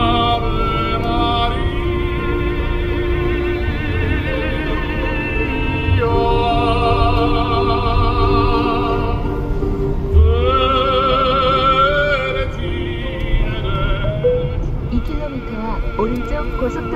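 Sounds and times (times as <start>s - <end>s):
slow operatic melody: 0.0s - 16.9s.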